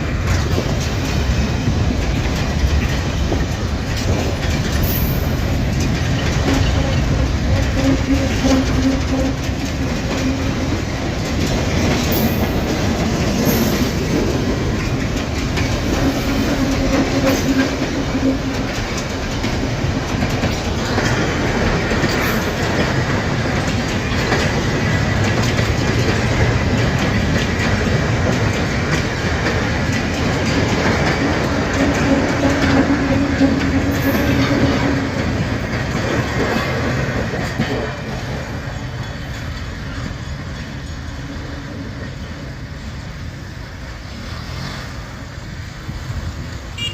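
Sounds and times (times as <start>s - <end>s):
train wheels clacking over joints: 0.0s - 46.8s.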